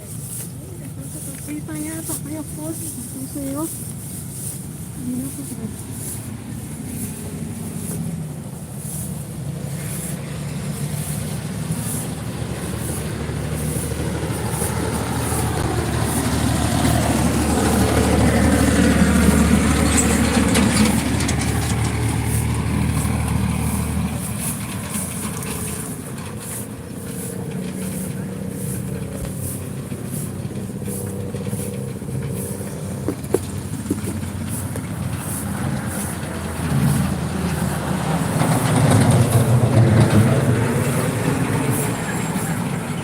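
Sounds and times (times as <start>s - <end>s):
vehicle engine passing by: 0.0s - 43.0s.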